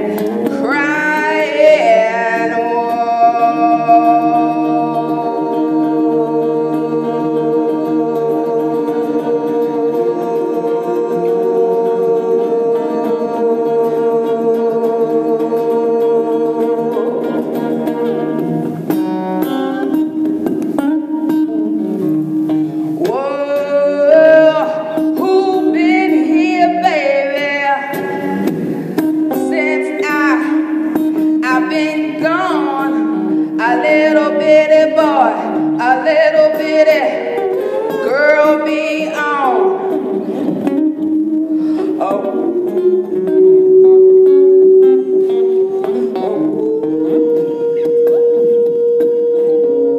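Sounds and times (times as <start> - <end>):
woman singing: 0.0 - 18.6, 22.9 - 49.9
electric guitar chord: 0.0 - 49.9.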